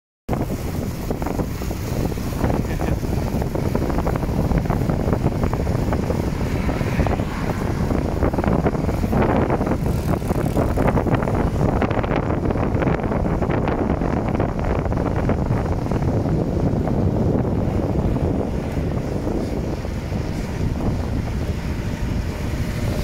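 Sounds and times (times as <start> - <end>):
wind rushing over microphone: 0.3 - 23.0.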